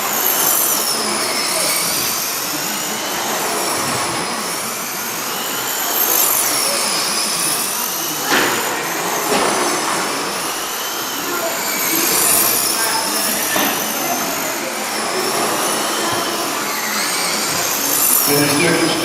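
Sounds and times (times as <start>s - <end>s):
rc truck motors whining: 0.0s - 19.0s.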